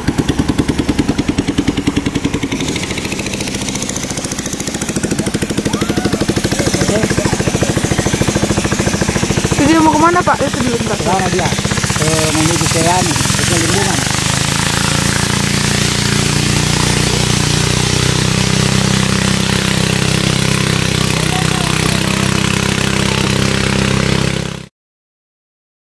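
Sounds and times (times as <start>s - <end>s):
boat motor running: 0.0s - 24.7s.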